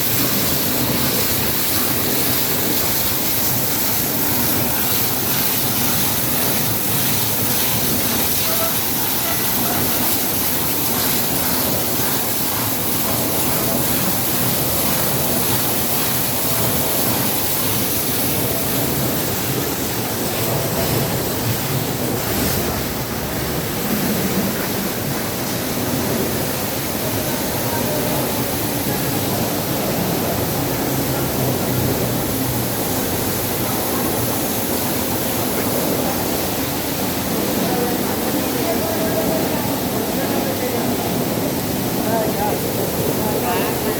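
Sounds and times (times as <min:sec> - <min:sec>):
washing machine running: 0:00.0 - 0:43.9
water rushing and spraying: 0:00.0 - 0:43.9.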